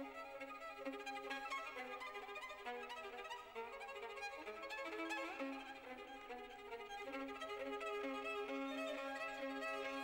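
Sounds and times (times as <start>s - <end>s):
violin melody: 0.0s - 10.0s.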